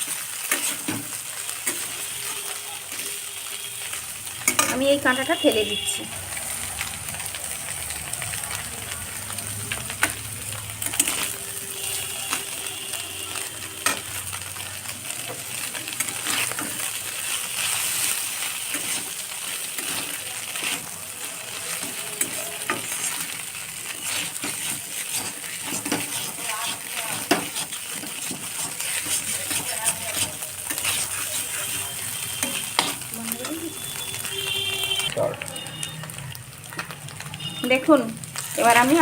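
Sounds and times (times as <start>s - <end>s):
spatula scraping a pan: 0.0s - 7.3s, 9.2s - 34.3s
food sizzling in oil: 0.0s - 39.0s.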